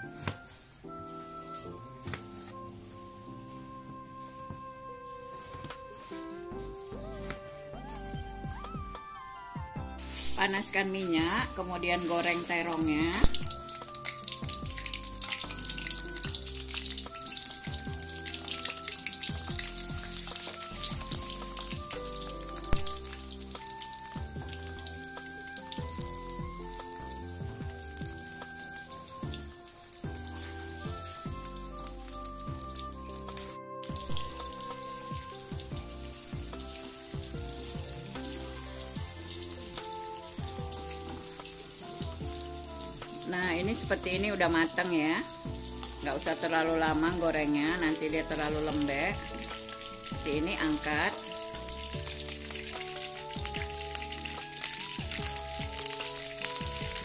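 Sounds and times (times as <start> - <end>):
background music with a beat: 0.0 - 57.0
food deep-frying in oil: 10.0 - 57.0.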